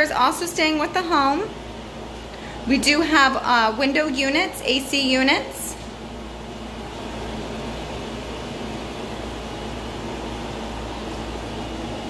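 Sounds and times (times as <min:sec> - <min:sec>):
air conditioner fan noise: 0:00.0 - 0:12.0.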